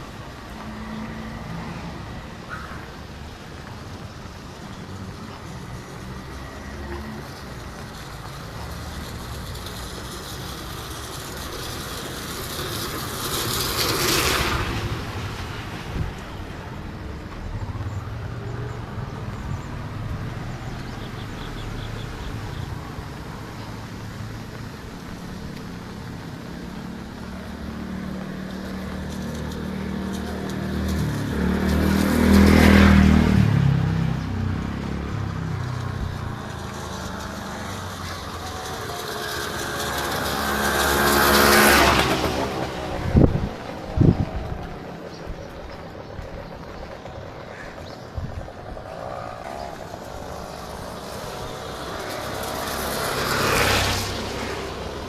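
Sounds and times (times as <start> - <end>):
traffic hum: 0.0 - 55.0
vehicles passing close by: 0.0 - 55.0.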